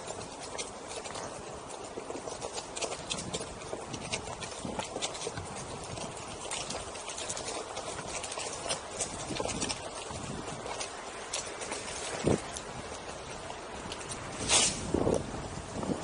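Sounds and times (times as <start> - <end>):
tire crackling over leaves and twigs: 0.0 - 16.0
wheel rolling on dirt trail: 0.0 - 16.0.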